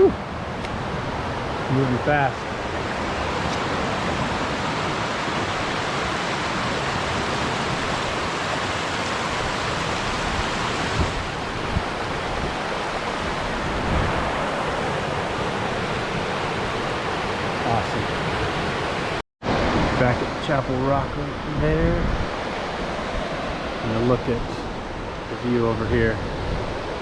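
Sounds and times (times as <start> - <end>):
fast water rushing: 0.0 - 27.0.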